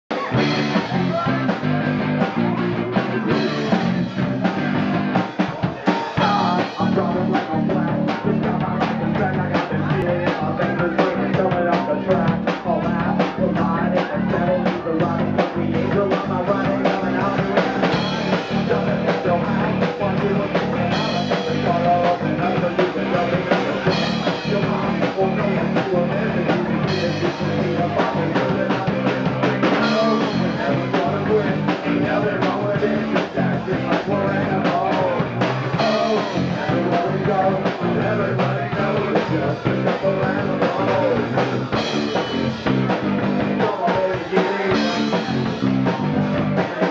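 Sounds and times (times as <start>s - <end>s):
drum kit beat: 0.1s - 46.9s
electric guitars: 0.1s - 46.9s
person singing: 0.1s - 46.9s.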